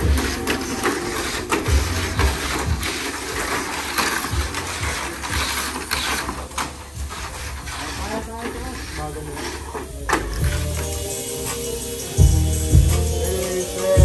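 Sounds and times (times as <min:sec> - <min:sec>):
rattling clicks: 0:00.0 - 0:11.8
small motors whirring: 0:00.0 - 0:14.0.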